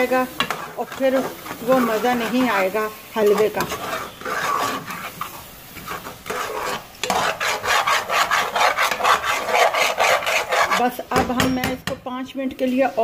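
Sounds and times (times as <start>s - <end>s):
metal spoon scraping a pan: 0.0s - 13.0s.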